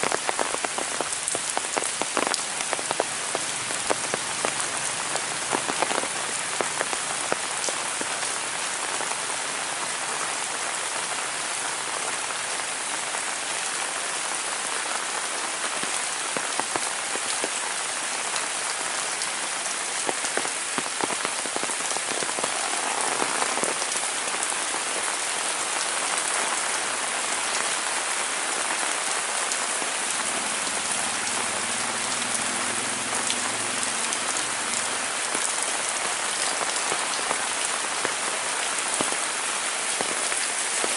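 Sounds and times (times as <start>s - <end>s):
heavy rain falling: 0.0s - 40.9s
raindrops tapping surfaces: 0.0s - 40.9s.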